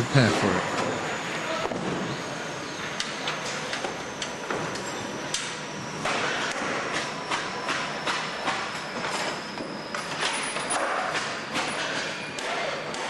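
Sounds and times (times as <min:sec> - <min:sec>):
steady din of work: 0:00.0 - 0:13.0.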